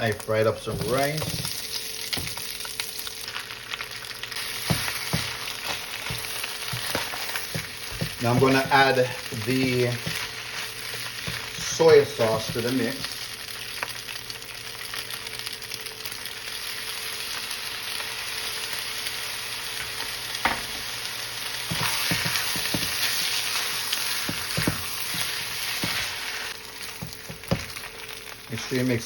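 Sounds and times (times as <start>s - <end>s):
rice sizzling in a pan: 0.0s - 29.0s.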